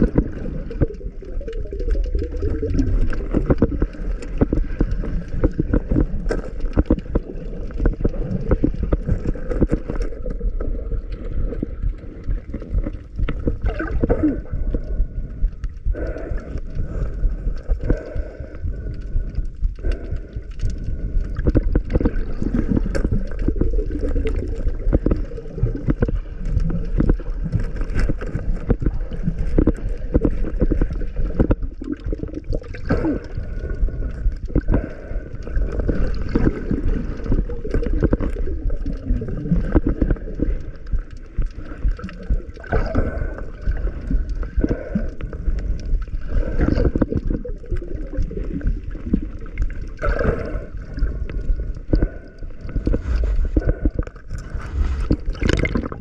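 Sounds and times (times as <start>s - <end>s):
muffled underwater bubbling: 0.0s - 56.0s.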